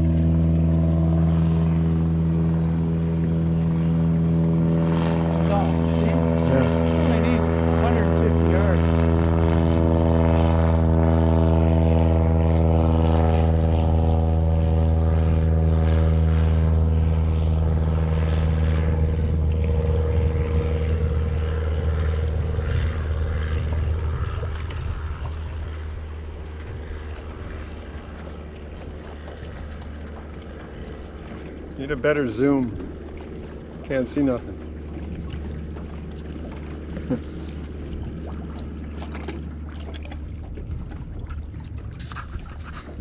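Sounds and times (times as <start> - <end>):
propeller plane engine drone: 0.0 - 43.0.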